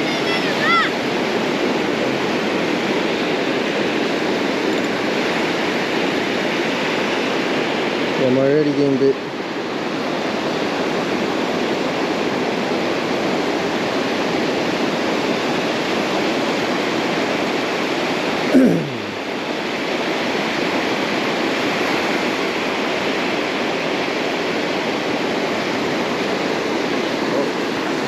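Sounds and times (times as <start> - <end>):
surf washing up a beach: 0.0 - 28.0.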